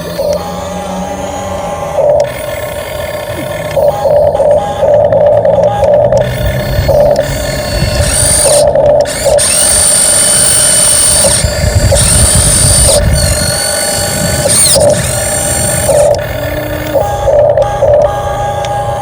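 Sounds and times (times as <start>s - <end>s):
electric motor whining: 0.0s - 19.0s
low grinding rumble: 0.0s - 19.0s.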